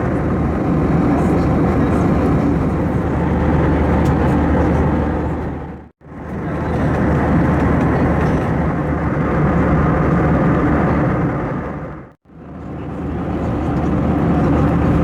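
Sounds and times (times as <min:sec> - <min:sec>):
airliner engine and airflow noise: 0:00.0 - 0:15.0.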